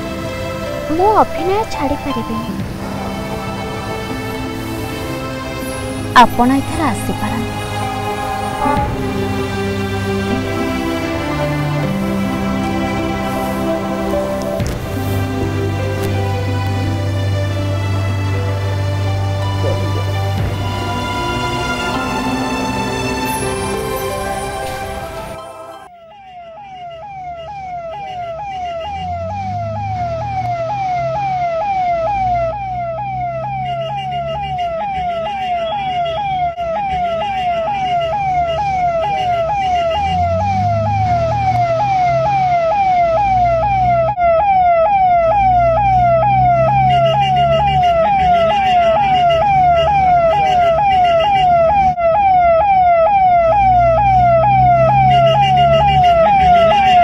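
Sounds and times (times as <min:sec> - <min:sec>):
ambulance siren yelping: 0:00.0 - 0:57.0.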